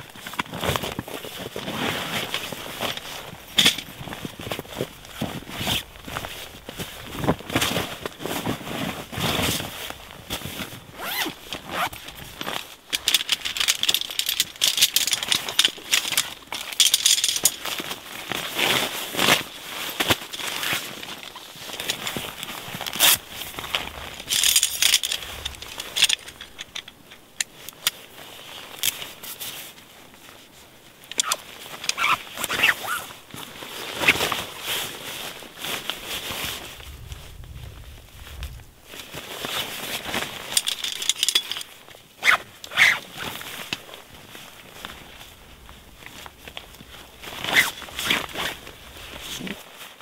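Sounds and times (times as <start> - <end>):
nylon fabric rustling and crinkling: 0.0 - 50.0
metal tent poles clinking: 0.2 - 8.5, 9.3 - 29.7, 31.0 - 33.2, 39.5 - 45.3, 46.0 - 49.6.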